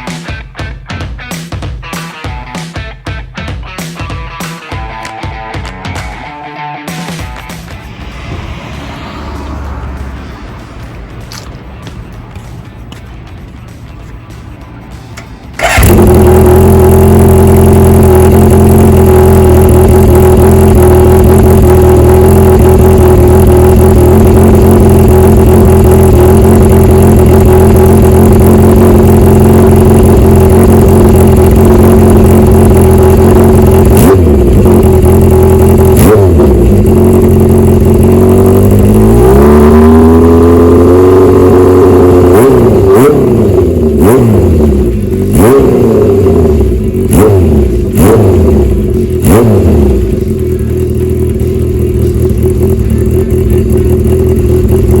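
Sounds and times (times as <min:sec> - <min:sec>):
motorcycle engine revving: 0:03.9 - 0:12.6, 0:14.8 - 0:55.0.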